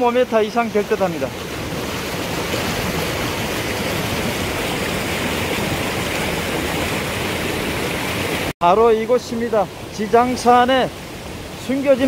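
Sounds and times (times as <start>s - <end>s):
stream rushing into rock pool: 0.0s - 12.0s.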